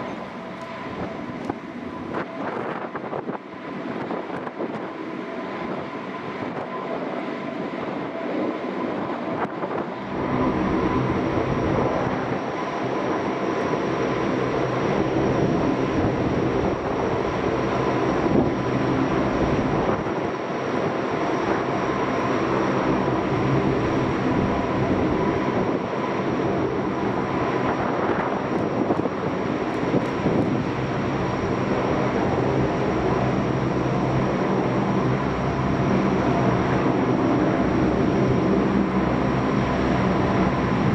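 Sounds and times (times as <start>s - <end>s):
turboprop aircraft engines whining: 0.0s - 40.9s.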